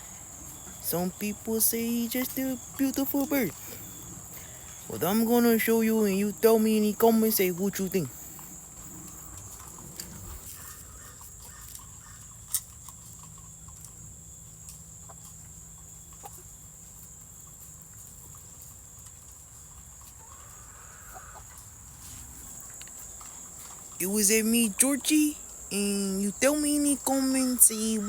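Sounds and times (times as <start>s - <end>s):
chickens clucking: 0.0s - 28.0s
crickets trilling: 0.0s - 28.0s.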